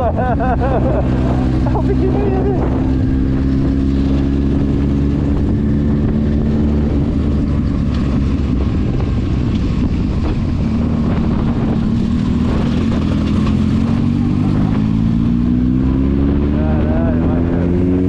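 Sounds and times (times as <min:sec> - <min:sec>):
road and wind rumble: 0:00.0 - 0:18.0
vehicle engine running: 0:00.0 - 0:18.0.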